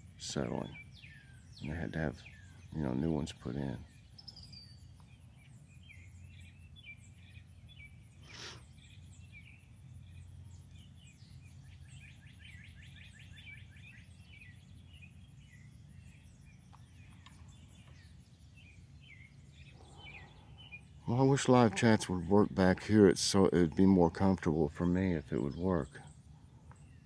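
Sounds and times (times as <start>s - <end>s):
songbirds chirping and whistling: 0.0s - 27.0s.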